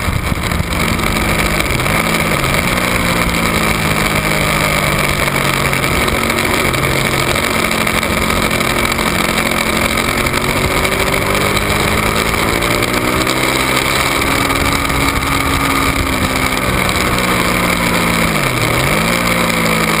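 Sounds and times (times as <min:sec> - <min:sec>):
motorcycle engine running hard: 0:00.0 - 0:20.0.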